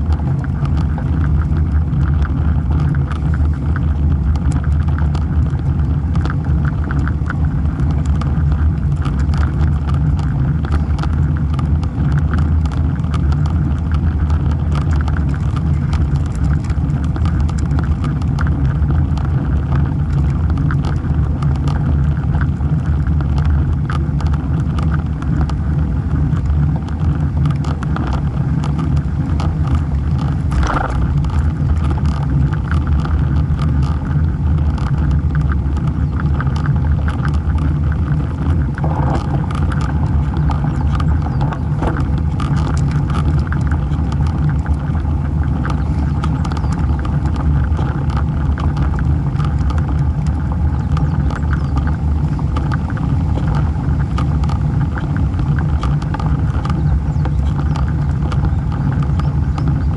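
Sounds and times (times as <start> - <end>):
bike tyre on asphalt: 0.0 - 59.9
wind rumble on microphone: 0.0 - 59.9.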